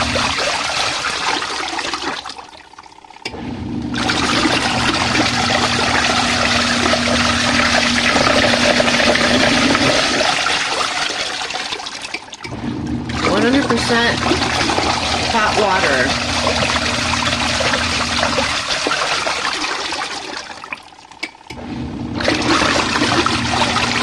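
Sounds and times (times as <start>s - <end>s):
washing machine motor hum: 0.0s - 24.0s
water churning in tub: 0.0s - 24.0s.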